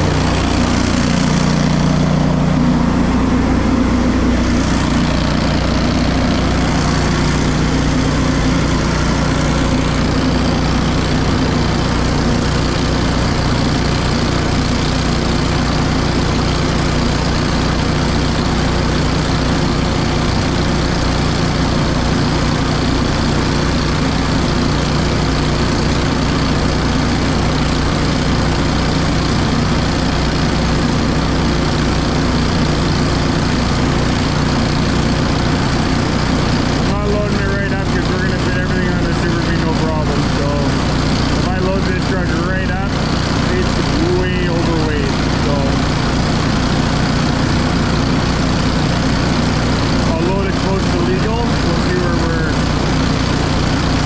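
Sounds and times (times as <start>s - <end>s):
belt conveyor engine droning: 0.0s - 54.0s
grain dryer running: 0.0s - 54.0s.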